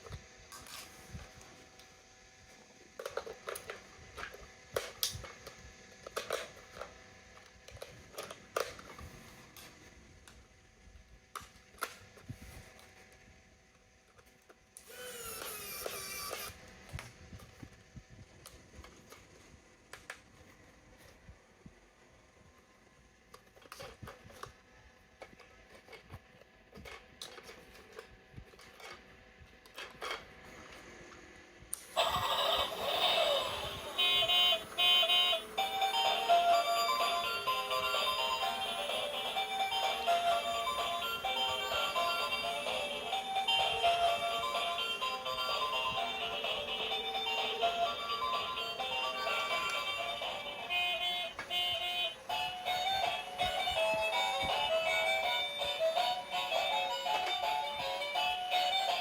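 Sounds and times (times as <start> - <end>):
toy and packaging clicks and rustles: 0.0 - 21.3, 22.5 - 59.0.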